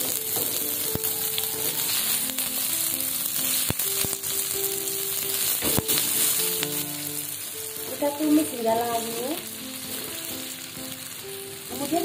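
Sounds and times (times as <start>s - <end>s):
background music with held notes: 0.0s - 12.0s
hot oil sizzling in a wok: 0.0s - 12.0s.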